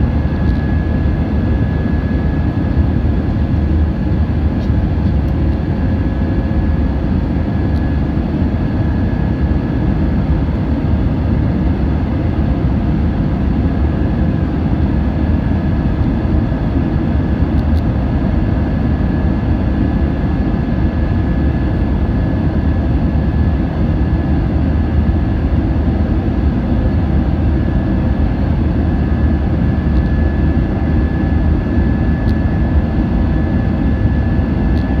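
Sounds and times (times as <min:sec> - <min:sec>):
faint high engine whine: 0:00.0 - 0:35.0
jet engines rumbling at takeoff: 0:00.0 - 0:35.0.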